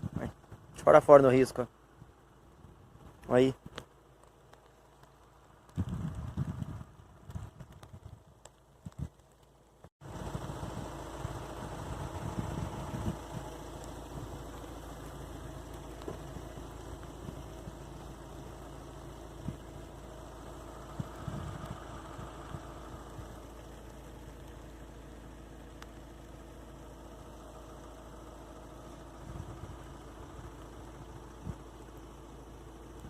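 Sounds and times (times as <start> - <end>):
motor idling: 0.0 - 33.0.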